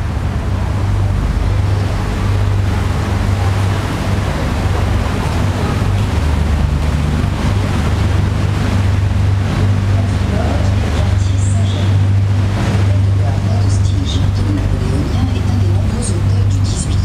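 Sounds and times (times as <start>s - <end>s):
boat engine droning: 0.0s - 17.0s
water rushing: 0.0s - 17.0s.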